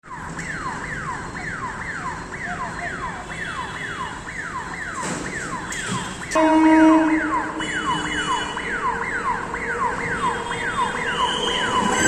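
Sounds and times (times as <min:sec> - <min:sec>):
electronic warning siren: 0:00.0 - 0:12.0.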